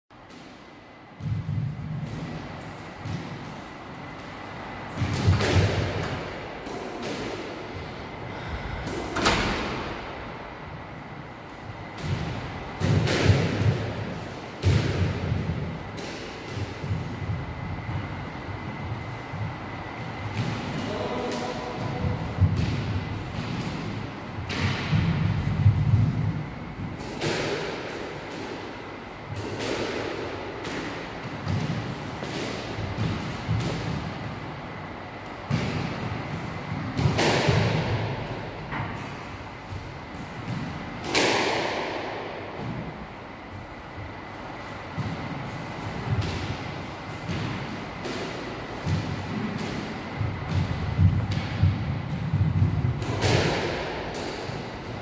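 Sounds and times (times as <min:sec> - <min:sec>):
squash ball smacking: 0:00.2 - 0:07.9, 0:11.5 - 0:55.0.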